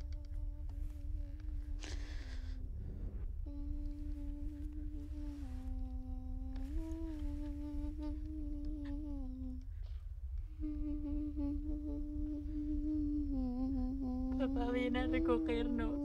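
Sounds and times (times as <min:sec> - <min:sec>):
person humming a slow tune: 0:00.0 - 0:02.8, 0:03.4 - 0:16.0
steady low rumble: 0:00.0 - 0:16.0.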